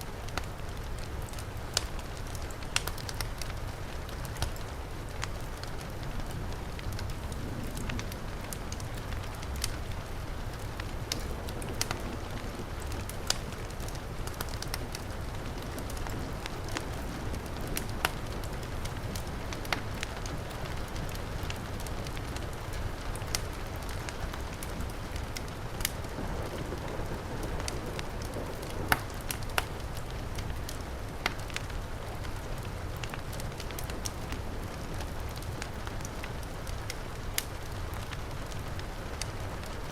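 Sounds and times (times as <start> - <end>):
heavy rain: 0.0 - 39.9
wood fire crackling and popping: 0.0 - 39.9.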